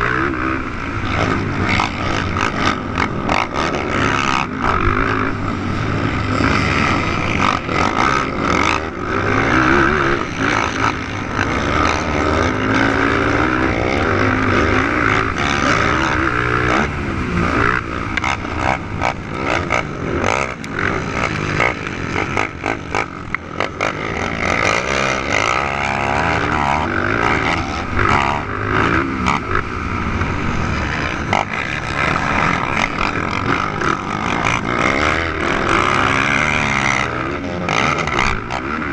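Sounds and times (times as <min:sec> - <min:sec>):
quad engines revving: 0:00.0 - 0:38.9.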